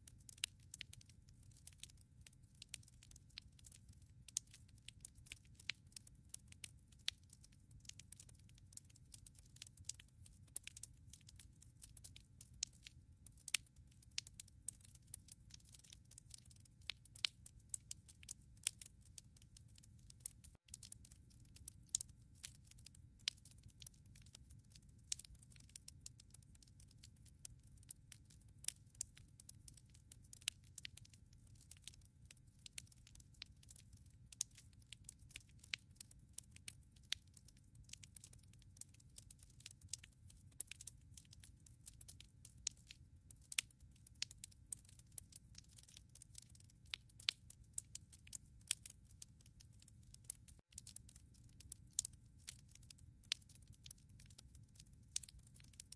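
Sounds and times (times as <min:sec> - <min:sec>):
fire crackles and pops: 0:00.0 - 0:55.9
soft low rumble of fire: 0:00.0 - 0:55.9.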